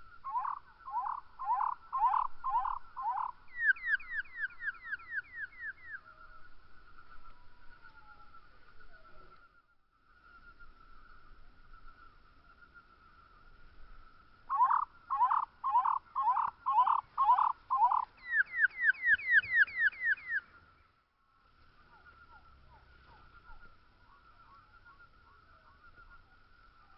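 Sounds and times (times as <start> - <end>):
slowed bird song: 0.0 - 26.9.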